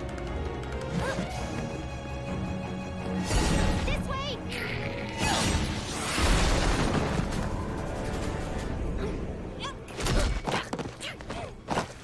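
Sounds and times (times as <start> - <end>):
action soundtrack music: 0.0 - 10.2.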